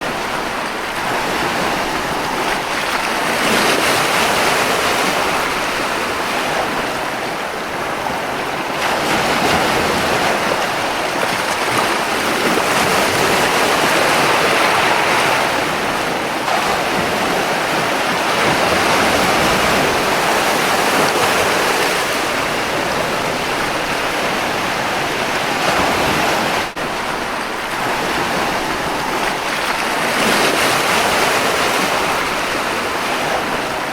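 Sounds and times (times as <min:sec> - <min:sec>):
ocean waves washing: 0:00.0 - 0:33.9.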